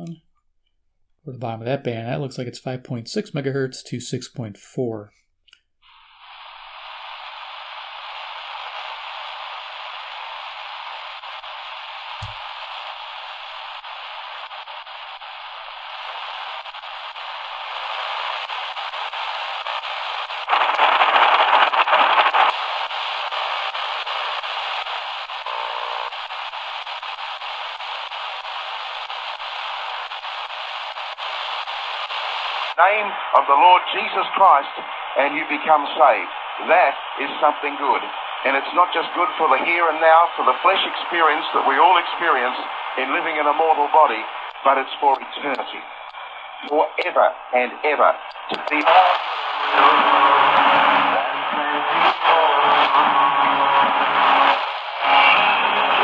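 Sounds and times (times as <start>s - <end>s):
radio static and hiss: 5.9s - 56.0s.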